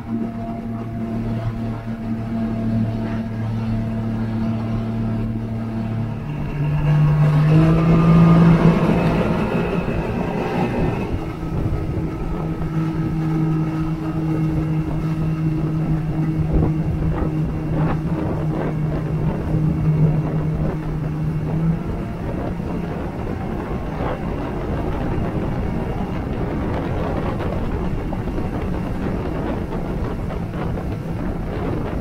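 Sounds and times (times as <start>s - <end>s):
outboard motor running: 0.0s - 32.0s
rush of wake and wind: 0.0s - 32.0s.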